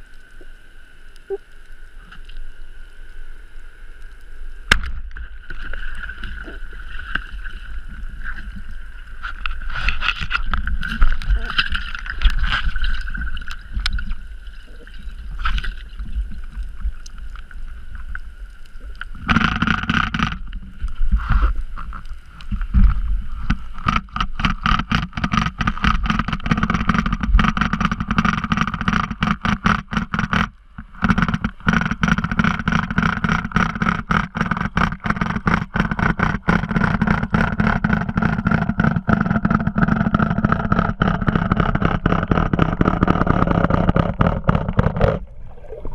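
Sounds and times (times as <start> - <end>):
low underwater rumble: 0.0 - 45.9
motorboat engine pulsing underwater: 4.6 - 45.9.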